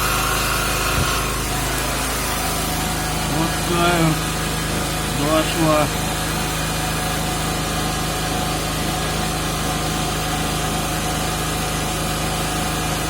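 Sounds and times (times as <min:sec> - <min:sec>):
generator engine humming: 0:00.0 - 0:13.0.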